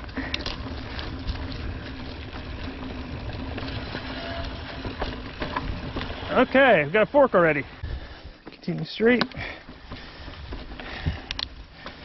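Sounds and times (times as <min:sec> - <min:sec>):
bike ticks and rattles: 0:00.0 - 0:12.0
bike tyres rolling on dirt: 0:00.0 - 0:12.0.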